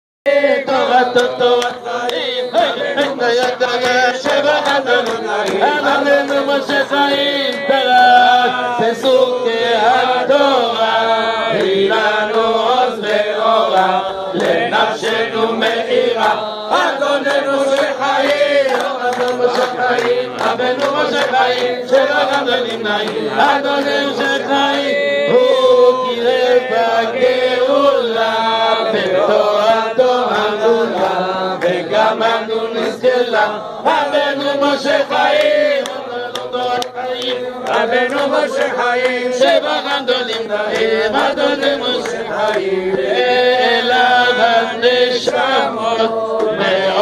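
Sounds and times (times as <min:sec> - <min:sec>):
men singing a hymn together: 0:00.3 - 0:47.0.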